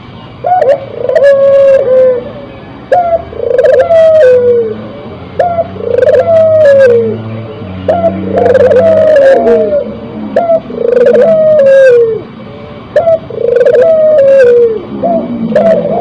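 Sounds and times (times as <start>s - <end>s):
dove cooing: 0.4s - 16.0s.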